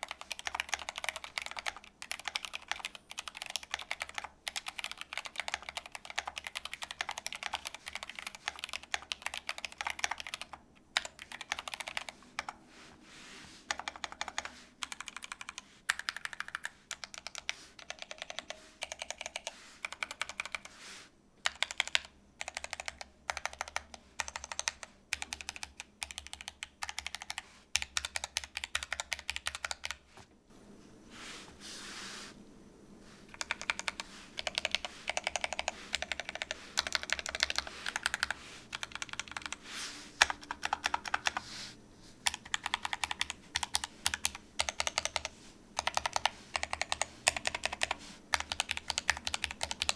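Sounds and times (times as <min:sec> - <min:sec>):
mechanical keyboard typing: 0:00.0 - 0:12.6, 0:13.7 - 0:20.7, 0:21.4 - 0:30.0, 0:33.3 - 0:39.6, 0:40.2 - 0:41.4, 0:42.2 - 0:49.9.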